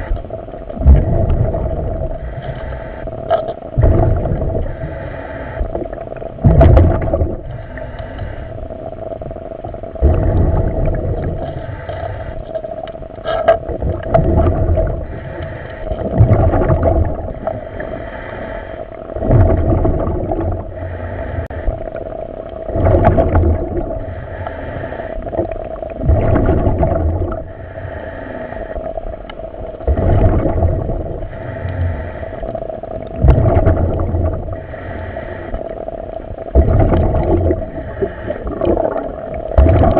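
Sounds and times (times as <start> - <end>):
diver breathing underwater: 0.0 - 39.9
steady hum: 0.0 - 39.9.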